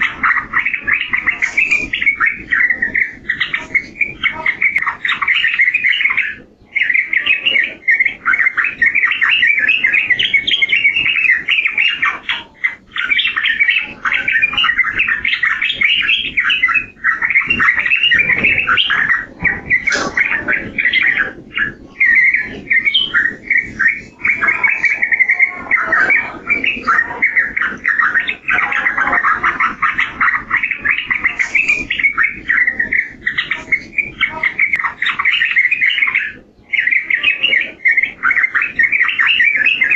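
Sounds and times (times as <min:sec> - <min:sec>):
bird singing chattering song: 0:00.0 - 0:39.9.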